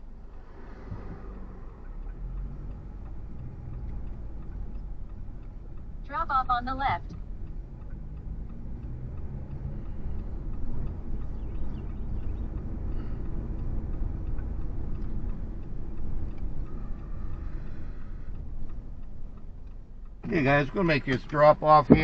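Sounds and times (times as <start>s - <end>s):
road and engine rumble in car: 0.0s - 22.0s.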